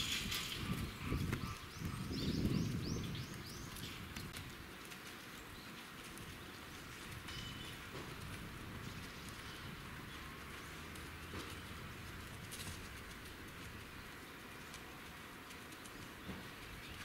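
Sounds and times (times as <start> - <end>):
quiet outdoor ambience: 0.0 - 17.0.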